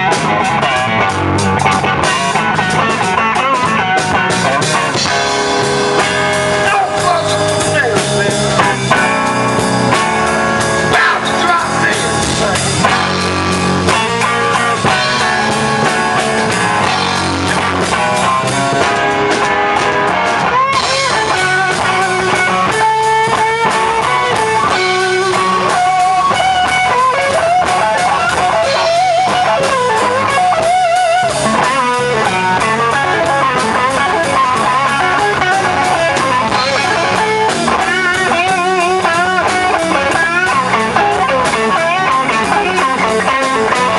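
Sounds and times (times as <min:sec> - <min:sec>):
drums: 0:00.0 - 0:43.9
electric guitar bent notes: 0:00.0 - 0:43.9.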